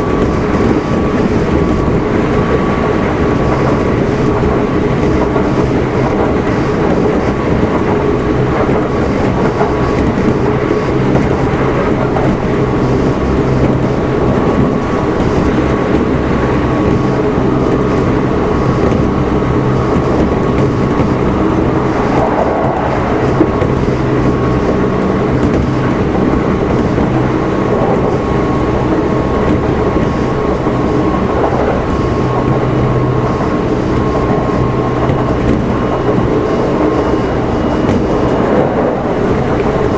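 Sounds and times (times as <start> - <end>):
electric motor hum: 0.0 - 39.9
train wheels rumbling on rails: 0.0 - 39.9.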